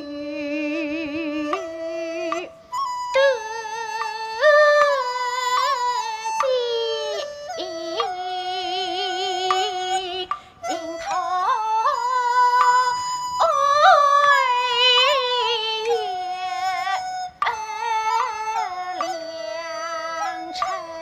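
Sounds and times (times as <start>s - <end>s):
opera singing wavering high melody: 0.0s - 21.0s.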